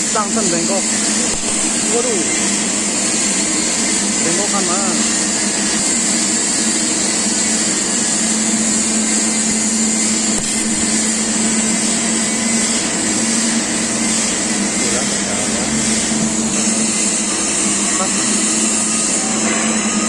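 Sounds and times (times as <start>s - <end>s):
welding arc hissing: 0.0s - 20.0s.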